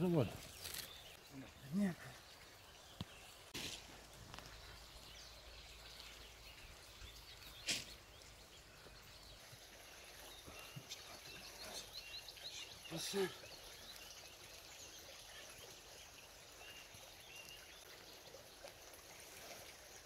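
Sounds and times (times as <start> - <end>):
distant bird calls: 0.1 - 18.5.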